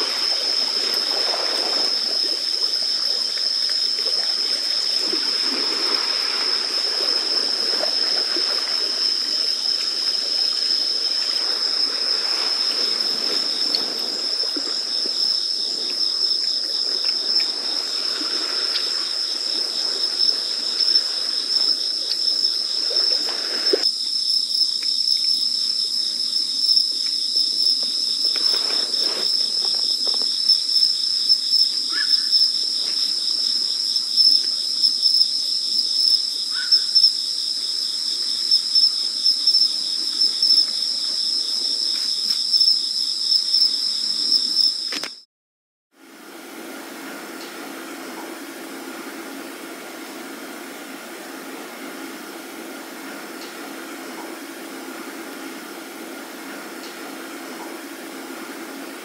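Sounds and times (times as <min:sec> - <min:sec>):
crickets chirping: 0:00.0 - 0:45.3, 0:46.0 - 0:59.0.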